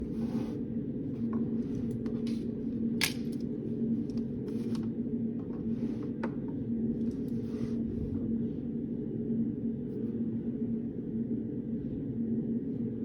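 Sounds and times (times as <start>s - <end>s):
air handling hum: 0.0s - 13.0s.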